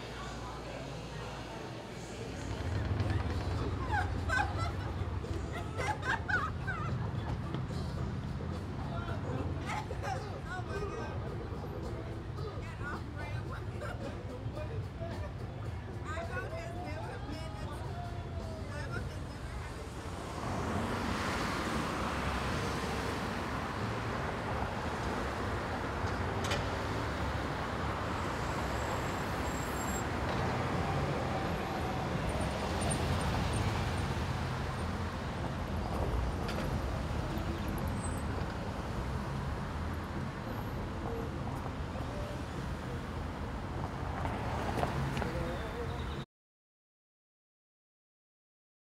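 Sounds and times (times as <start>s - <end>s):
street traffic: 0.0s - 46.3s.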